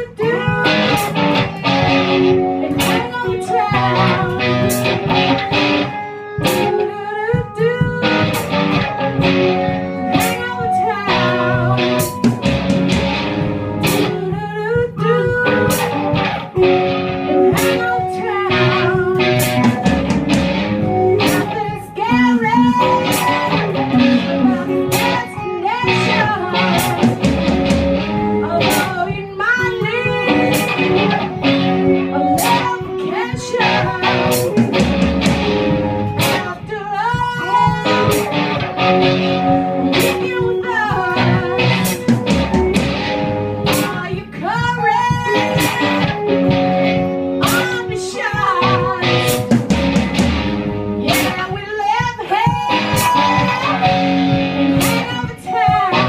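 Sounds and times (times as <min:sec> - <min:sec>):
drum kit beat: 0:00.0 - 0:56.0
electric guitar playing: 0:00.0 - 0:56.0
person singing: 0:00.0 - 0:56.0.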